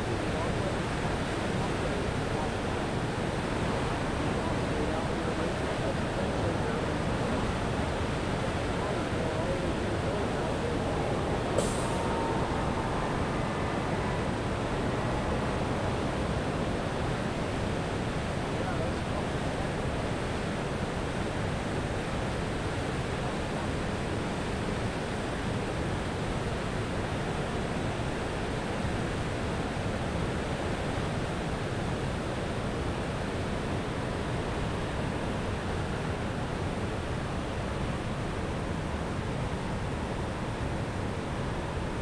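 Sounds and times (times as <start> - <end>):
water rushing over a dam: 0.0 - 42.0.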